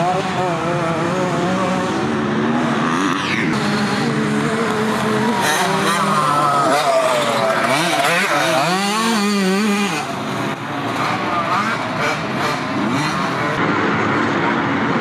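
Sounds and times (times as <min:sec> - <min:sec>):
motocross bikes engines revving: 0:00.0 - 0:15.0.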